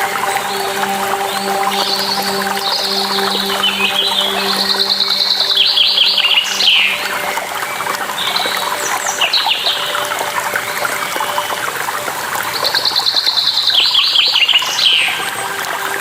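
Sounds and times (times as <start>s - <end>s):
songbirds calling: 0.0s - 16.0s
trickling water: 0.0s - 16.0s.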